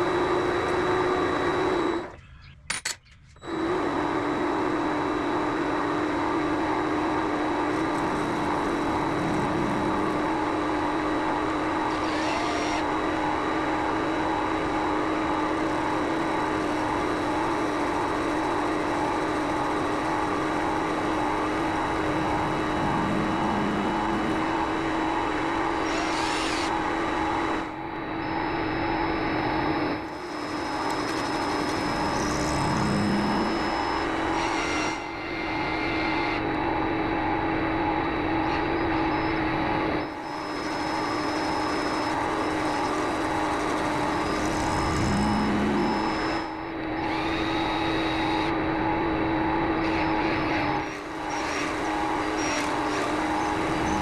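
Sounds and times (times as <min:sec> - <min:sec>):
lathe motor and gear whine: 0:00.0 - 0:02.8, 0:03.4 - 0:54.0.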